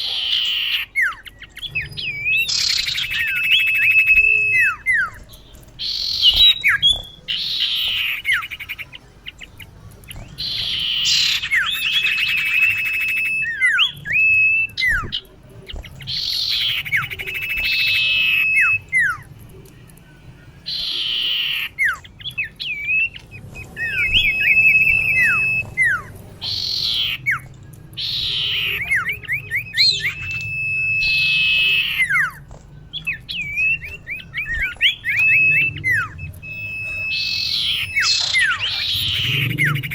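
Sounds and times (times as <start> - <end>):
bird whistles and raspy calls: 0.0 - 39.9.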